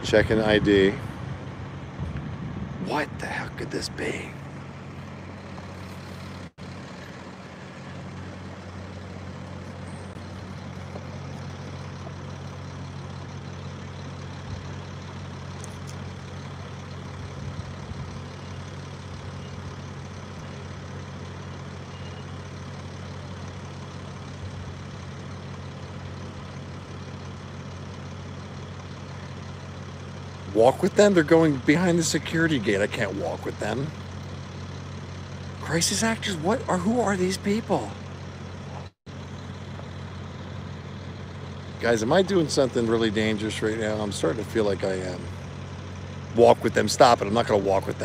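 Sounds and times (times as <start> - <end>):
heavy vehicle engine idling: 0.0 - 48.0
street background noise: 0.0 - 48.0.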